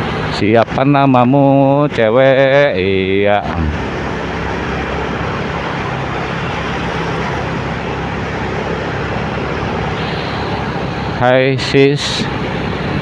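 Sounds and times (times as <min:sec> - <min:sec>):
motorcycle engine hum: 0:00.0 - 0:13.0
road noise: 0:00.0 - 0:13.0.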